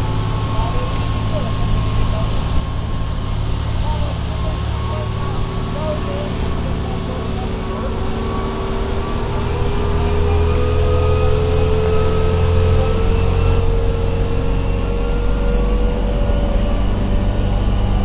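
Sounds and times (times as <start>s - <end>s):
motorboat engine whine: 0.0s - 18.0s.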